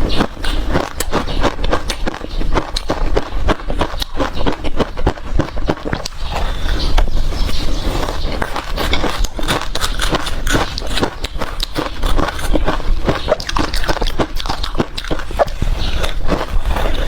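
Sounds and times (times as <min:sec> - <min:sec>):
ice being crunched and chewed: 0:00.0 - 0:17.0.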